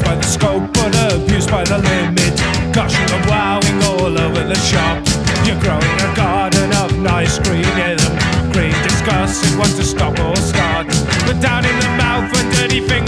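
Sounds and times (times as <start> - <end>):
bass guitar: 0.0 - 13.0
drums hitting steadily: 0.0 - 13.0
electric guitar bending in pitch: 0.0 - 13.0.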